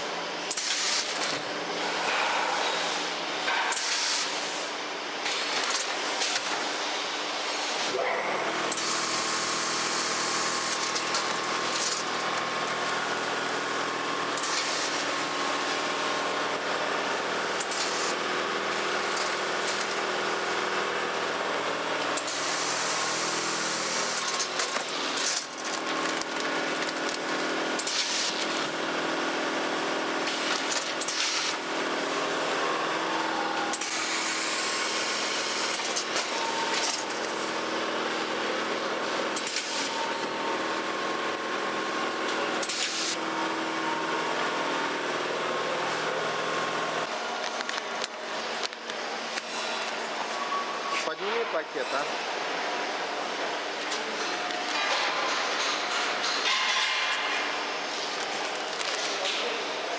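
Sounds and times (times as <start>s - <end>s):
packing machine humming: 0.0s - 59.9s.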